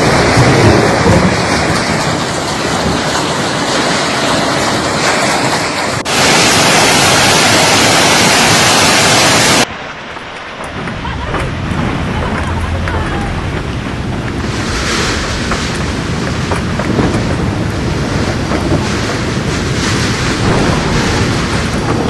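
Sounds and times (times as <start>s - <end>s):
heavy hail and rain: 0.0s - 22.0s.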